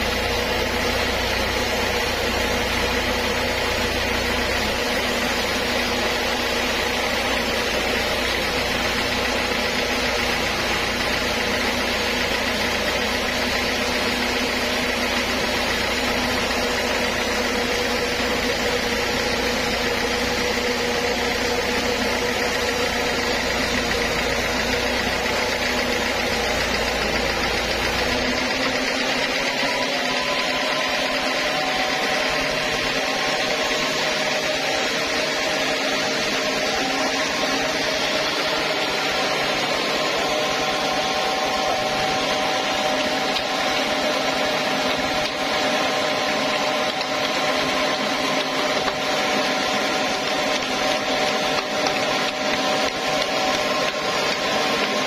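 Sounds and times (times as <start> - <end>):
band sawmill drone: 0.0 - 55.0.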